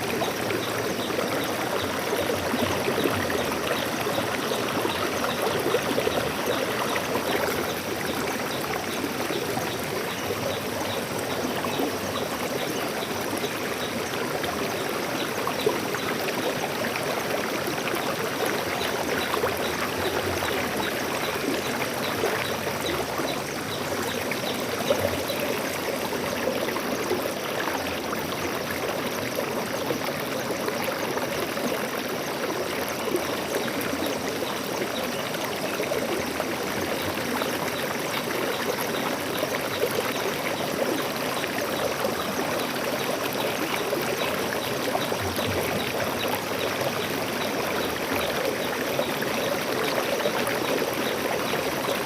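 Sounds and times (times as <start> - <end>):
stream flowing over stones: 0.0 - 52.0.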